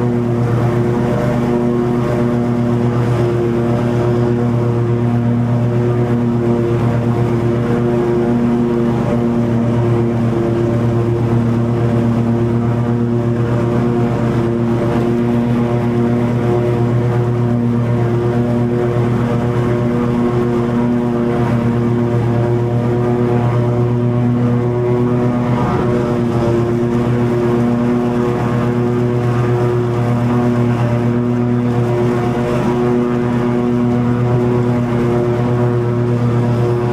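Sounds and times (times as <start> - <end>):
lawn mower engine running: 0.0 - 36.9.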